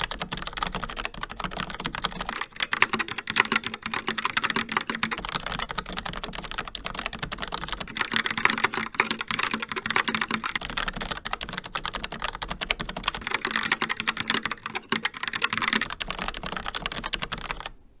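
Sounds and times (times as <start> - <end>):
mechanical keyboard typing: 0.0 - 17.8.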